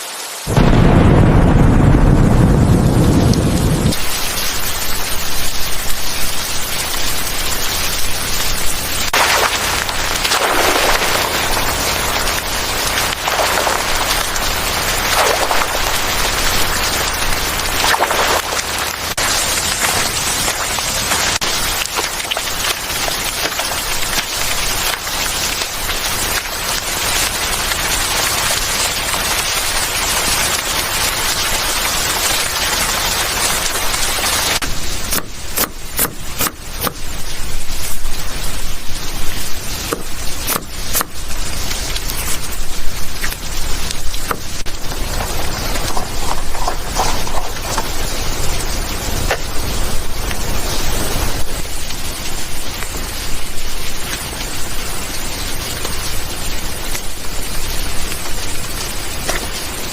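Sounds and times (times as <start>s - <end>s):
rain taps and spatters: 0.0s - 59.9s
steady rain hiss: 0.0s - 59.9s.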